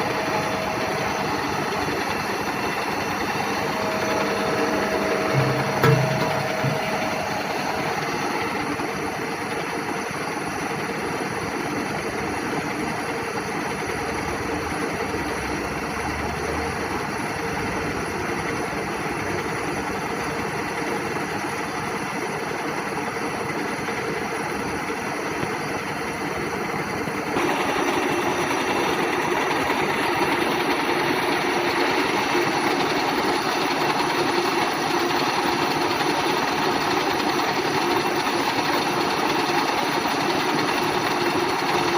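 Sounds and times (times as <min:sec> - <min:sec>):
milling machine humming: 0:00.0 - 0:41.9.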